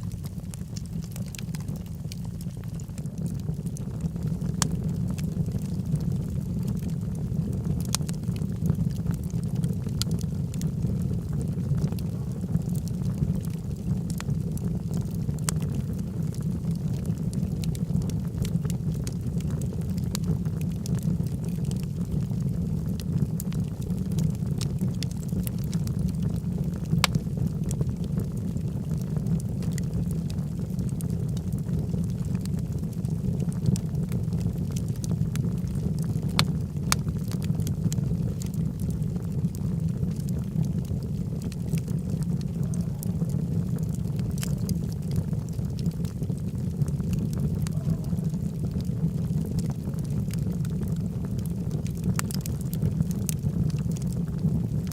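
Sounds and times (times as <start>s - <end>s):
fire flames roaring: 0.0s - 54.9s
logs crackling and popping: 0.0s - 54.9s.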